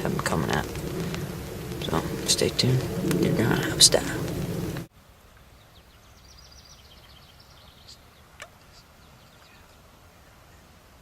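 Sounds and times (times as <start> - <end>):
faint outdoor field ambience: 0.0 - 11.0
songbird chirping: 0.0 - 11.0.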